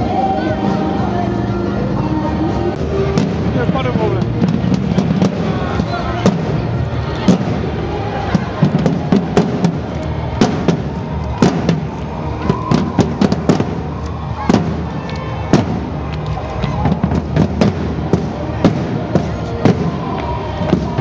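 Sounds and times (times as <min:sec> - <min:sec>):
murmur of street crowd: 0:00.0 - 0:21.0
marching field drums: 0:02.8 - 0:21.0.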